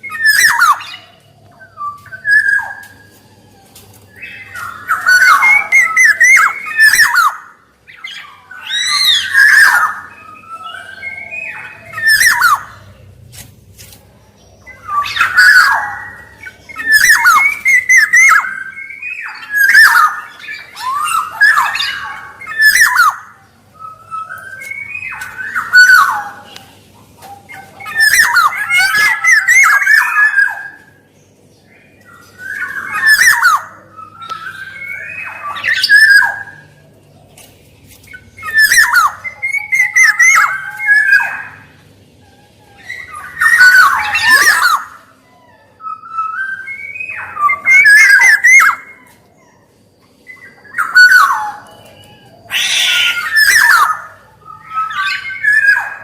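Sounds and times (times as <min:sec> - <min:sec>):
bird calling whistles and rasps: 0:00.0 - 0:13.3, 0:14.6 - 0:56.0.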